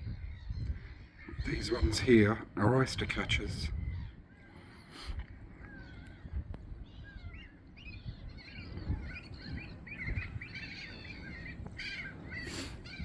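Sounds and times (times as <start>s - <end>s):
oystercatchers and gulls calling: 0.0s - 13.0s.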